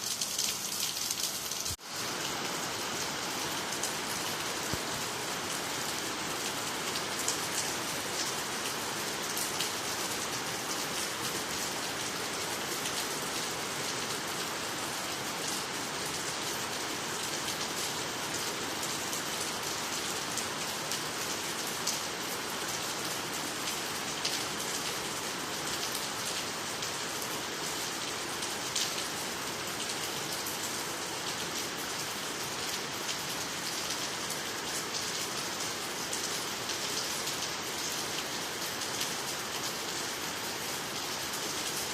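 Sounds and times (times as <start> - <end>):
rain falling on water and trees: 0.0 - 41.9.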